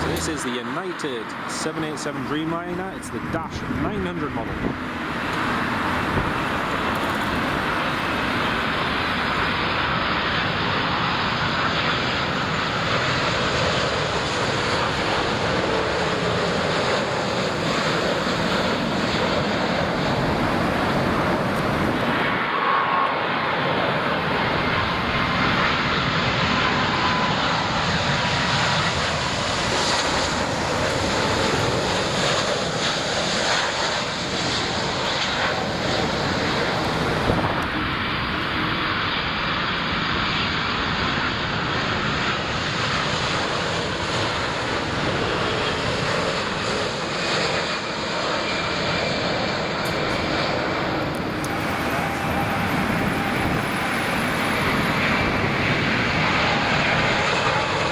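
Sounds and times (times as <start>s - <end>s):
jet airliner passing: 0.0s - 57.9s.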